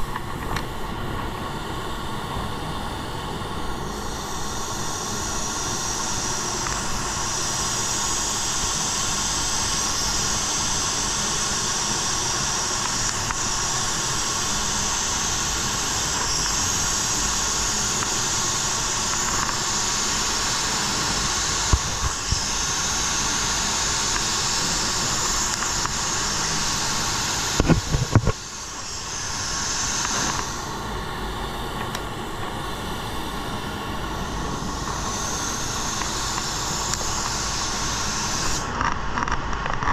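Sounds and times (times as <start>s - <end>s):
spray gun air hiss: 0.0s - 38.8s.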